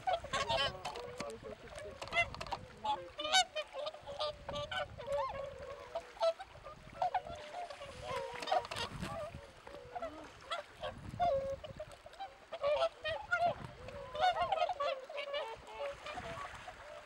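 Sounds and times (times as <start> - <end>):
swans calling: 0.0 - 17.0.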